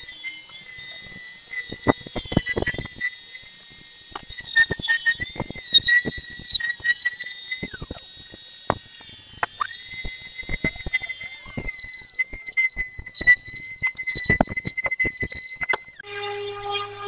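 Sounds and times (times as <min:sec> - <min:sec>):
power tool whine: 0:00.0 - 0:17.0.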